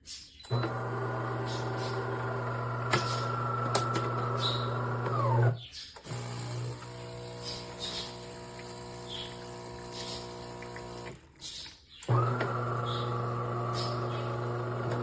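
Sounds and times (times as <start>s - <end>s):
espresso machine humming: 0.5s - 11.3s, 12.1s - 15.0s.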